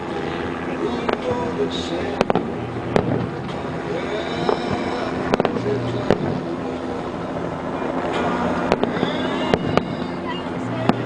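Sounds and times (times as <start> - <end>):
steady background noise: 0.0 - 11.0
distant fireworks bangs: 1.0 - 6.8, 7.5 - 11.0.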